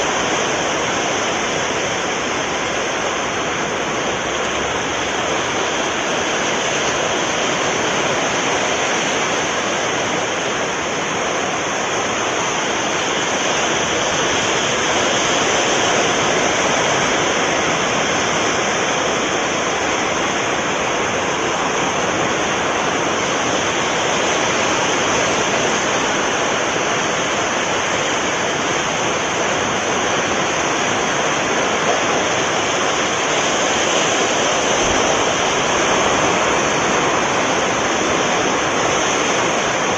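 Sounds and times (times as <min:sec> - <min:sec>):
sea surf rushing: 0:00.0 - 0:39.9.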